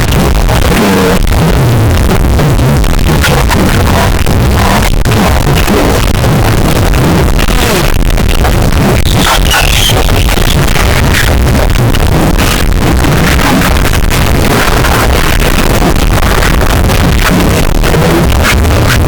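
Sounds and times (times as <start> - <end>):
harsh distorted electronic din: 0.0 - 19.0.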